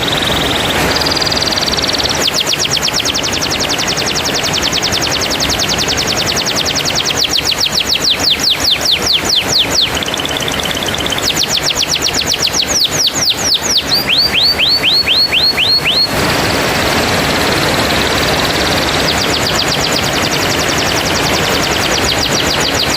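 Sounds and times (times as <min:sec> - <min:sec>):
canary singing trills: 0:00.0 - 0:22.9.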